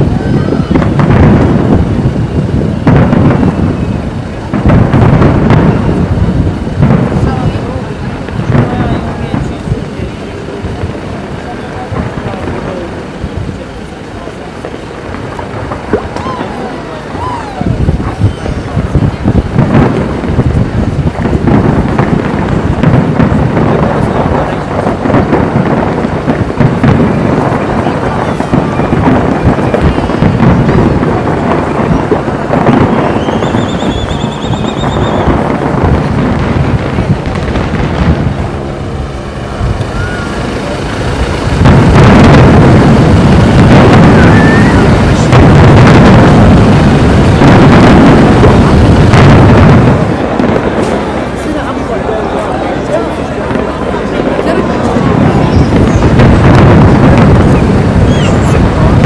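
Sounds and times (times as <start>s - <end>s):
firework shells bursting: 0.0s - 59.0s.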